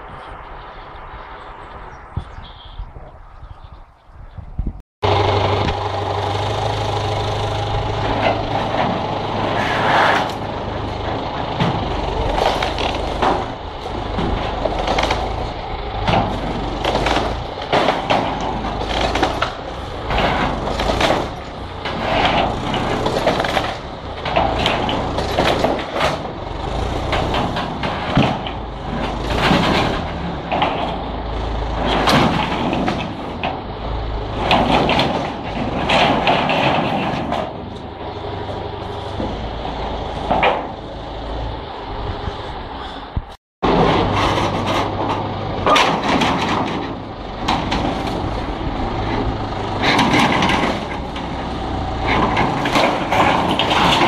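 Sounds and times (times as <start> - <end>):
corrugated iron and timber clanking: 5.0 - 54.0
tractor engine running: 5.0 - 54.0.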